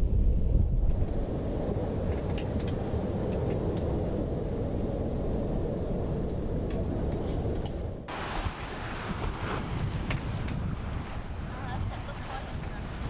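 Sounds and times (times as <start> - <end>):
wind and water rushing: 0.0 - 13.0.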